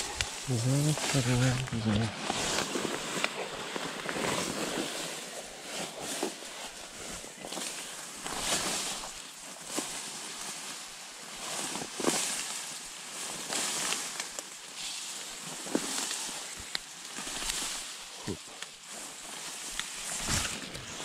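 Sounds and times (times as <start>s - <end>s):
grass rustling against microphone: 0.0s - 21.0s.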